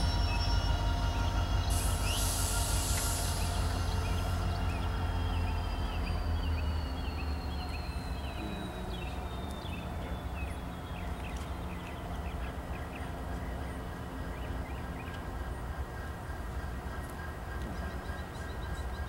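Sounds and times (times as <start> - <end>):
high falling whine: 0.0 - 16.0
diesel locomotive rumbling: 0.0 - 19.0.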